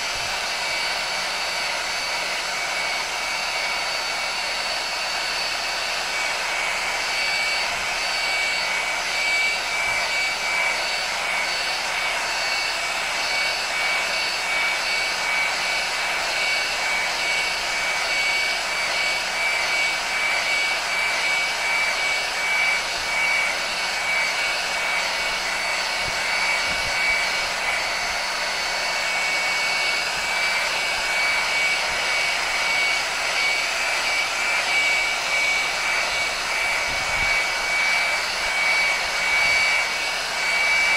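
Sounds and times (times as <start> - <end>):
heat gun blowing air: 0.0 - 40.9
high fan whine: 0.0 - 40.9.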